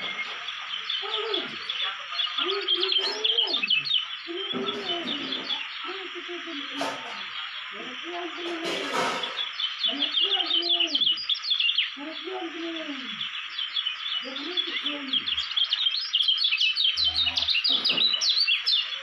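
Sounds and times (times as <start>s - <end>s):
bird twittering song: 0.0s - 19.0s
lower falling bird calls: 0.0s - 19.0s.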